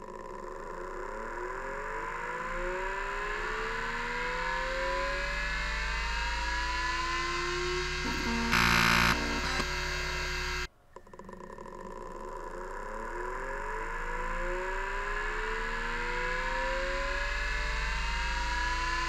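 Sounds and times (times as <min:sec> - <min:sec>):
spindle motor whine rising: 0:00.0 - 0:10.7, 0:11.8 - 0:19.0.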